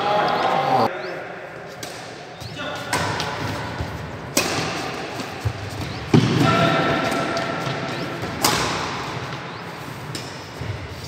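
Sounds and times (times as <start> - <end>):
racket striking shuttlecock: 1.7 - 11.0.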